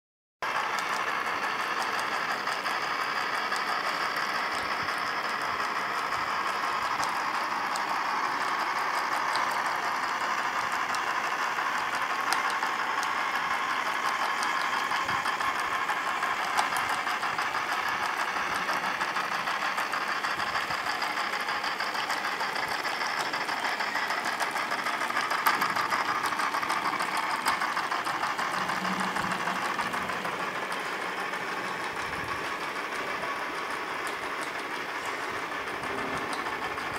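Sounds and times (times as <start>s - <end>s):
plastic gears clattering: 0.4s - 36.9s
toy motor whirring: 0.4s - 36.9s.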